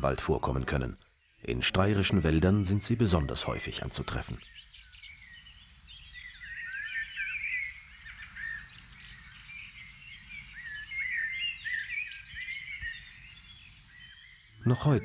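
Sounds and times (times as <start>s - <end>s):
songbirds chirping and warbling: 0.0s - 15.0s.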